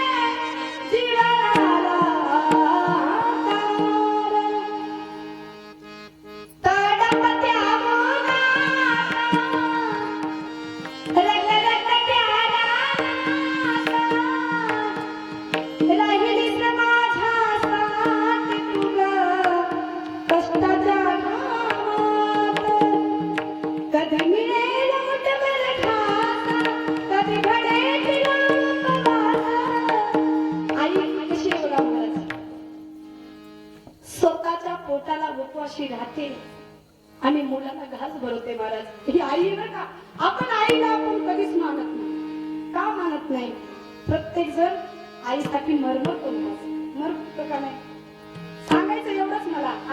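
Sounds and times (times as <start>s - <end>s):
tabla: 0.0s - 49.9s.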